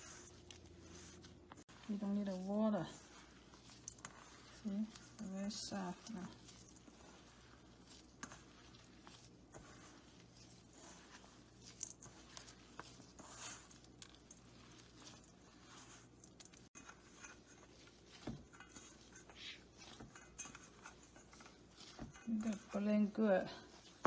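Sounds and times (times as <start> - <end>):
hands kneading dough: 0.0 - 24.0.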